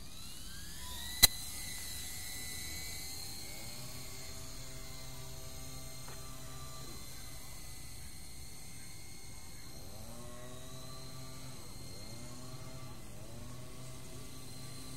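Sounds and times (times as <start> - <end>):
rc helicopter rotors whining: 0.0 - 14.9.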